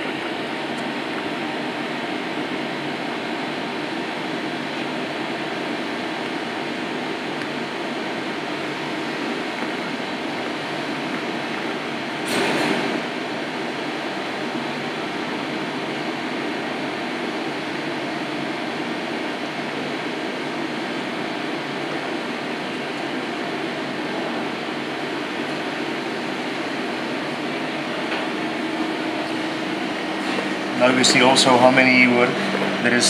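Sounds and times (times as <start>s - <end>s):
ventilation fans rushing: 0.0s - 33.0s.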